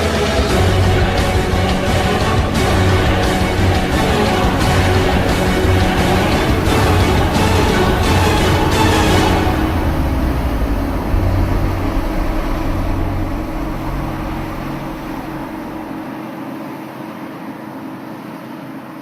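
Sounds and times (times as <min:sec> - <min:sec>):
combine harvester rumbling: 0:00.0 - 0:16.1.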